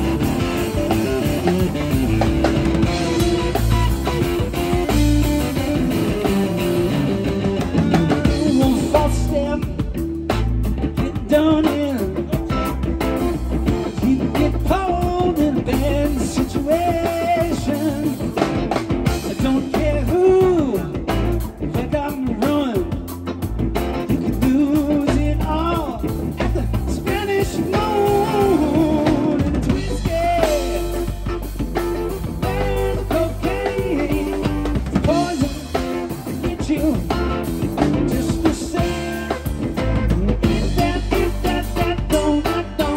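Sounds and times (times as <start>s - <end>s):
bending lead guitar line: 0.0s - 42.9s
drum kit with cymbals: 0.0s - 42.9s
electric bass: 0.0s - 42.9s
electric guitar: 0.0s - 42.9s.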